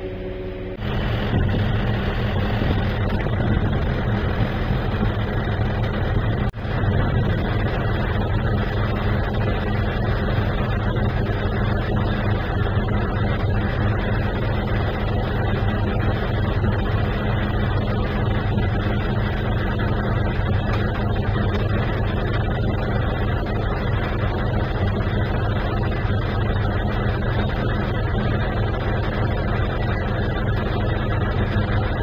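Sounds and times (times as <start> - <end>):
crane engine running: 0.0 - 32.0.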